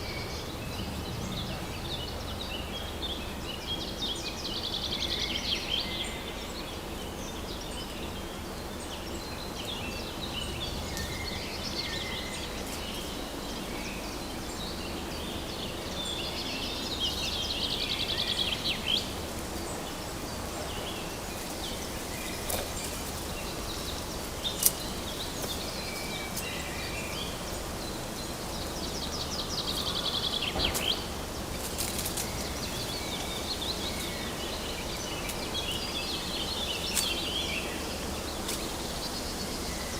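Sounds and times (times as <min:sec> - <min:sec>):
birds calling and singing: 0:00.0 - 0:39.9
steady background hiss: 0:00.0 - 0:39.9.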